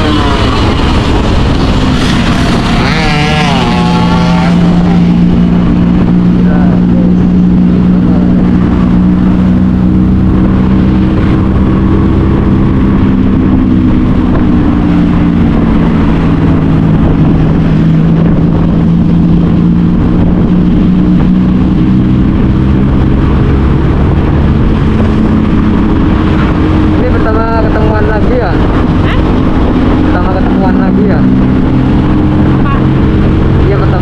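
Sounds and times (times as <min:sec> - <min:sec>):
road and wind noise: 0:00.0 - 0:34.0
scooter engine humming: 0:00.0 - 0:34.0.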